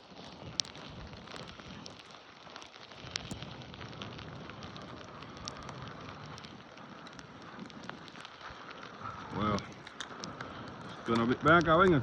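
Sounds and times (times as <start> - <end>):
crackling ticks of snow and ice: 0.0 - 12.0
snowstorm hiss: 0.0 - 12.0.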